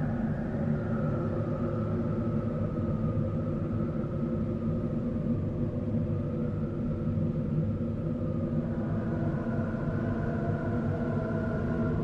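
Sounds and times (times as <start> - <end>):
low rumbling wind drone: 0.0 - 12.0.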